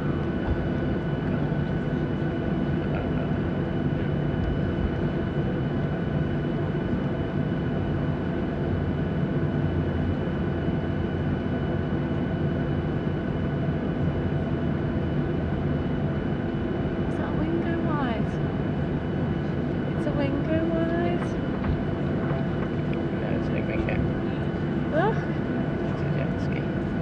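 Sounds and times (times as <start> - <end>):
jet engines idling: 0.0 - 27.0.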